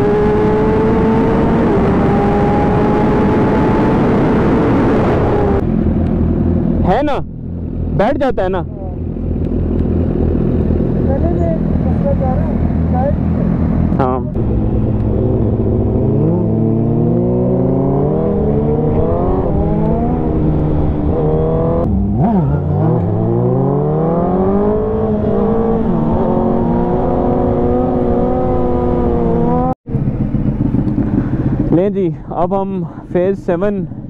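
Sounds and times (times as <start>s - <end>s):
engines revving and accelerating: 0.0s - 7.1s, 7.9s - 31.7s.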